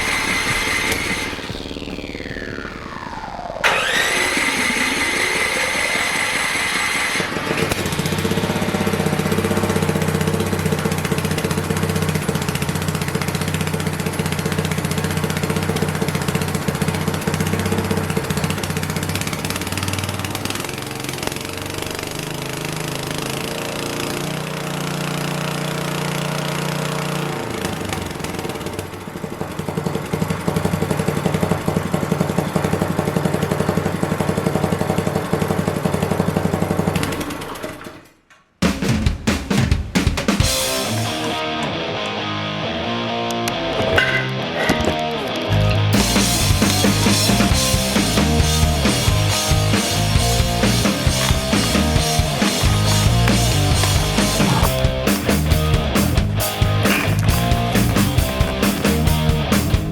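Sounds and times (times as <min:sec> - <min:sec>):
small engine humming: 0:00.0 - 0:37.8, 0:44.6 - 0:59.9.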